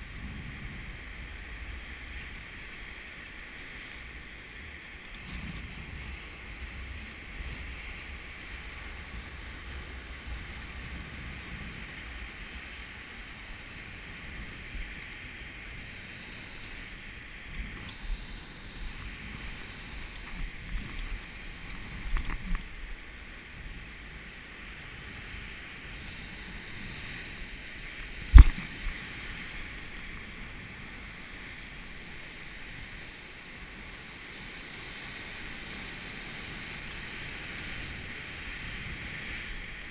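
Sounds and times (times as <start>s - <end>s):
wind on microphone: 0.0s - 2.8s, 4.1s - 39.9s
waves breaking over rocks: 0.0s - 39.9s.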